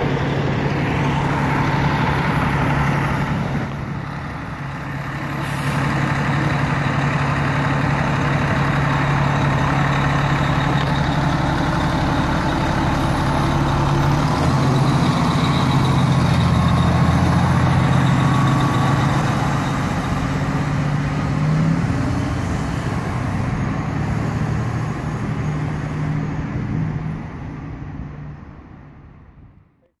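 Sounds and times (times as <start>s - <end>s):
fire truck diesel engine: 0.0s - 29.8s.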